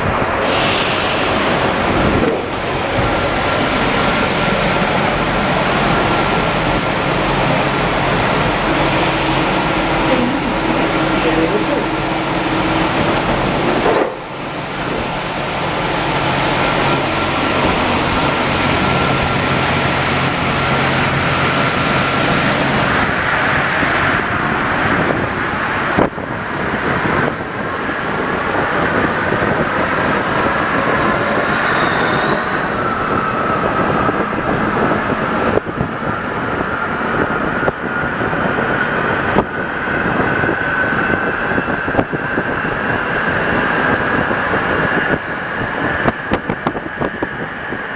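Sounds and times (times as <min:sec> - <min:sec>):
metro train rumbling: 0:00.0 - 0:47.9.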